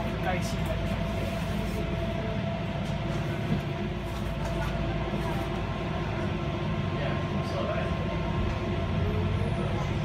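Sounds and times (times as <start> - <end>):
train running hum: 0.0 - 10.0.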